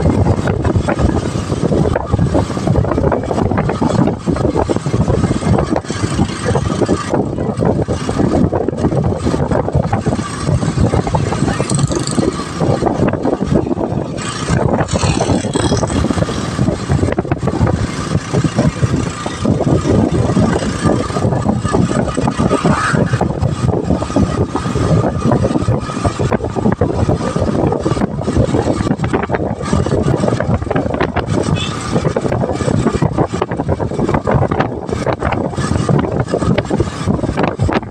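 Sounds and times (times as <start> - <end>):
motorcycle engine running: 0.0 - 37.9
wind and road noise: 0.0 - 37.9.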